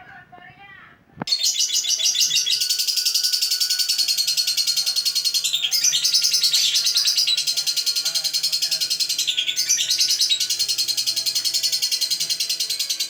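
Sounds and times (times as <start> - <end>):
lovebird chattering trill: 1.3 - 13.0.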